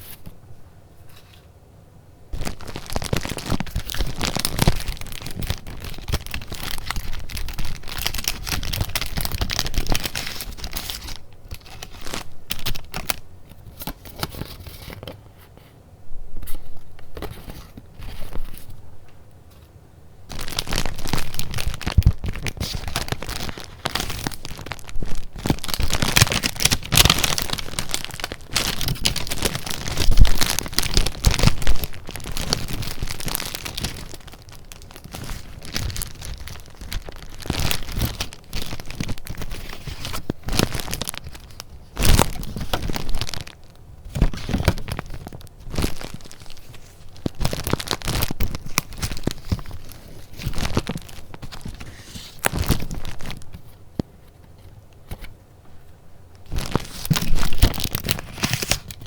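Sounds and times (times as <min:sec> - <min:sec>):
paper rustling and crinkling: 0:02.4 - 0:15.7, 0:16.4 - 0:18.8, 0:19.5 - 0:55.4, 0:56.4 - 0:59.0.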